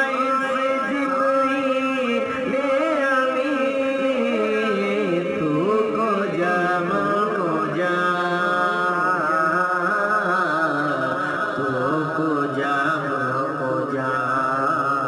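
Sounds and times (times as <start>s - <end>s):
solo voice chanting: 0.0s - 15.0s.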